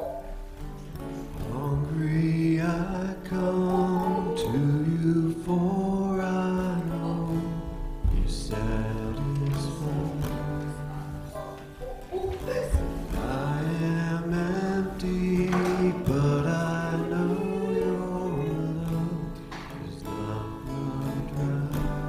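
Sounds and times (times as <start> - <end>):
guitar: 0.0 - 22.0
person singing a hymn: 0.0 - 22.0.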